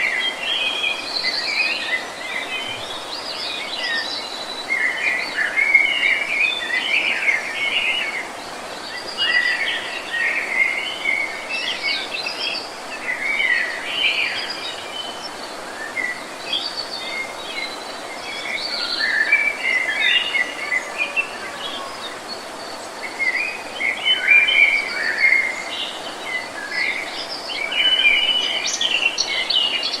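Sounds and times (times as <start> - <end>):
waterfall: 0.0 - 30.0.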